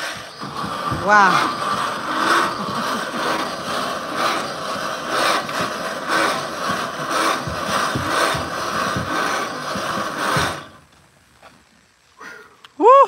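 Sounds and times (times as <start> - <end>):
hand-cranked blender whirring: 0.0 - 10.9.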